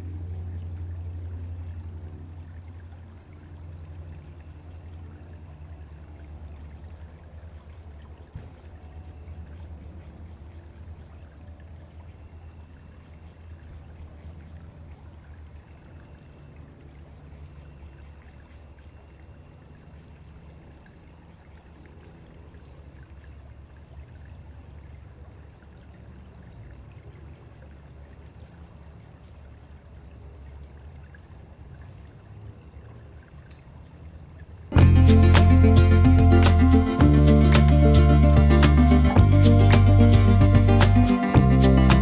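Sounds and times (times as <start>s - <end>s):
stream trickling: 0.0s - 42.0s.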